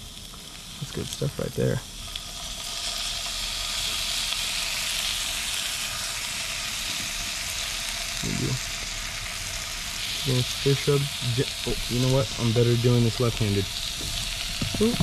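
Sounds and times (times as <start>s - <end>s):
fish sizzling in butter: 0.0s - 15.0s.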